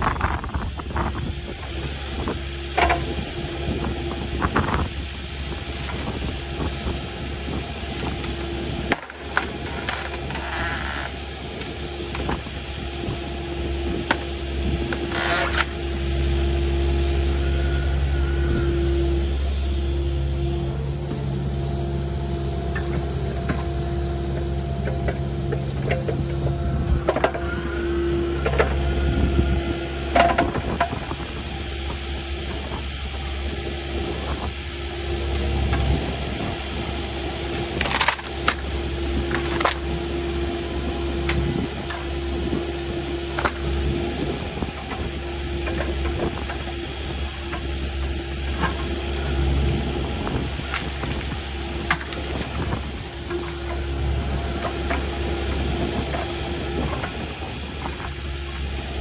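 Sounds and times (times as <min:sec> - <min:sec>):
excavator diesel engine running: 0:00.0 - 0:59.0
hydraulic whine: 0:00.0 - 0:59.0.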